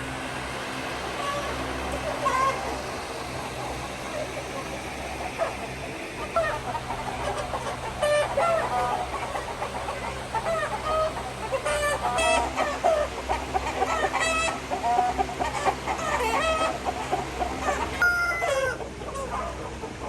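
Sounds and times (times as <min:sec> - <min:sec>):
chickens clucking and calling: 0:00.0 - 0:20.0.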